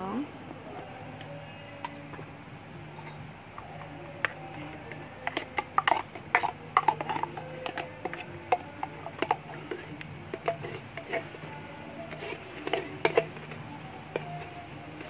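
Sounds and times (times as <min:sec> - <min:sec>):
metal spoon scraping plastic jar: 0:02.9 - 0:15.0.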